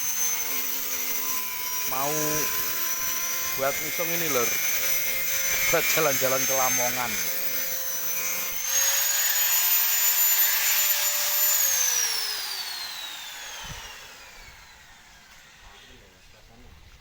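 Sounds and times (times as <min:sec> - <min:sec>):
high-speed machine whine: 0:00.0 - 0:16.1.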